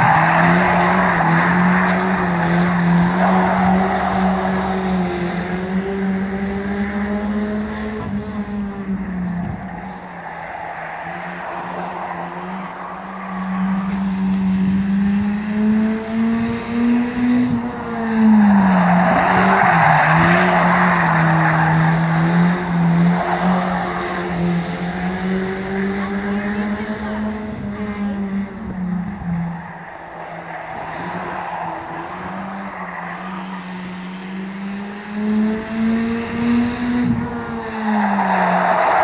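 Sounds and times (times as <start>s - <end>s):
racing car engine: 0.0s - 39.0s.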